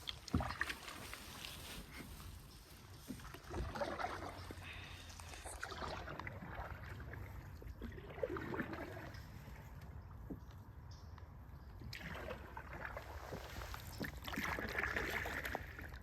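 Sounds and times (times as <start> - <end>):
canoe paddles splashing in water: 0.0 - 10.5, 11.8 - 16.0
water trickling off paddle blades: 0.0 - 16.0.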